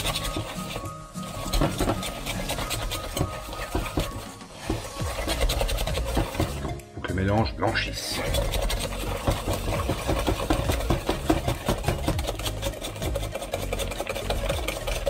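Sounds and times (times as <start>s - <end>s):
whisk clattering in glass bowl: 0.0s - 6.7s, 8.0s - 15.0s.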